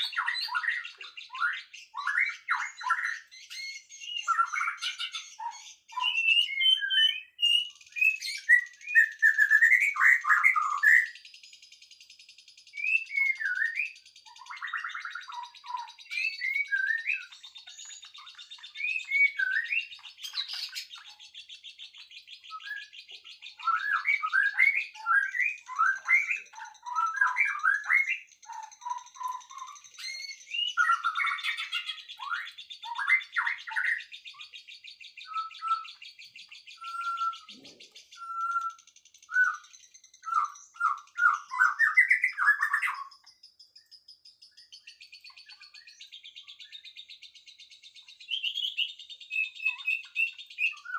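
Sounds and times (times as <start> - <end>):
songbirds chirping: 0.0 - 50.9.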